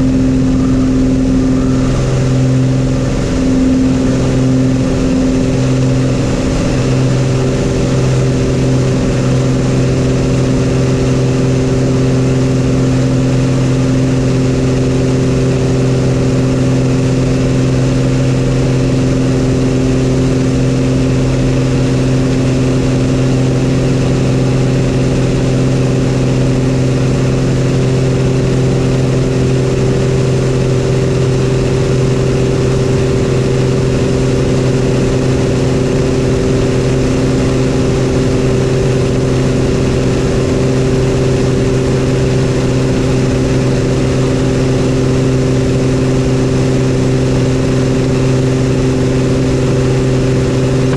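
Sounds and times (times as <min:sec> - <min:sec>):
propeller plane engine drone: 0:00.0 - 0:50.9.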